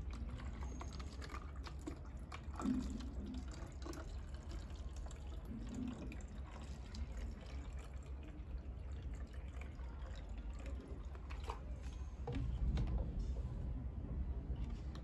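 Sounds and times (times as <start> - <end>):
water trickling and dripping: 0.0 - 13.4
low steady hum: 0.0 - 15.0.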